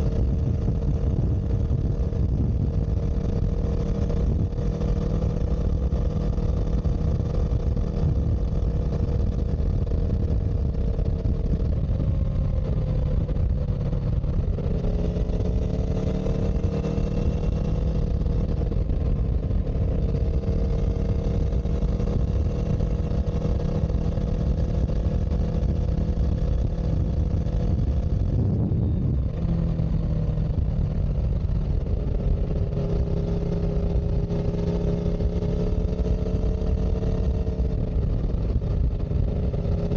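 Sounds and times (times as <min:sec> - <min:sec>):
heavy low rumble: 0:00.0 - 0:39.9
vehicle engine running: 0:00.0 - 0:39.9.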